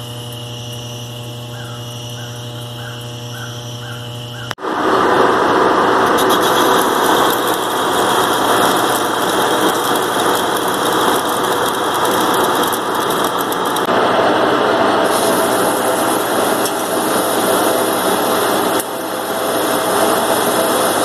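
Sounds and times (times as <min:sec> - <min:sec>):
lathe running and cutting: 0:00.0 - 0:21.0.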